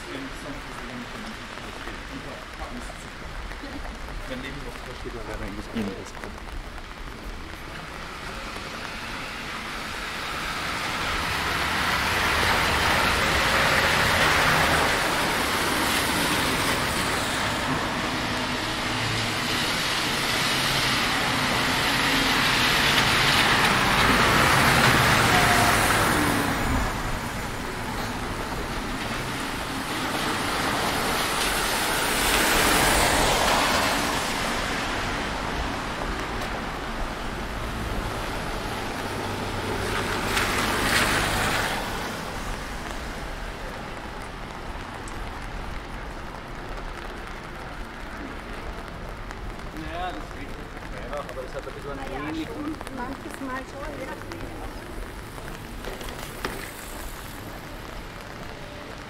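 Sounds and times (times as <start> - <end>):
tyre hiss on wet road: 0.0 - 49.1, 49.7 - 59.0.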